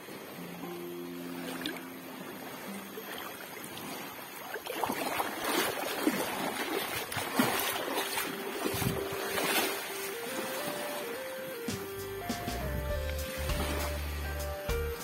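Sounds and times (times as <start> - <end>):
water splashing and dripping: 2.7 - 15.0.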